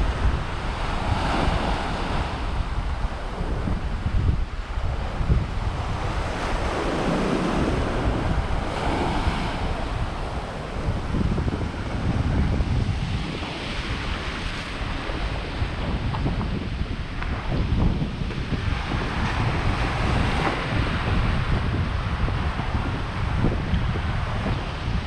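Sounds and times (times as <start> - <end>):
sea waves breaking: 0.0 - 25.0
wind buffeting microphone: 0.0 - 25.0.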